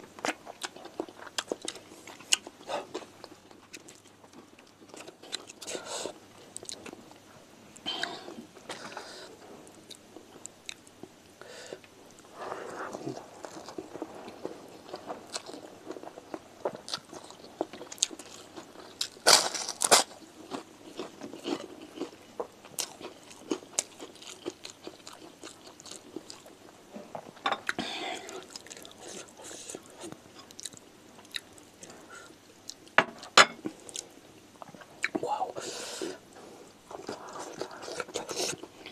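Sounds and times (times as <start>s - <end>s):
man chewing food: 0.2s - 7.2s, 7.8s - 35.2s, 36.0s - 38.9s.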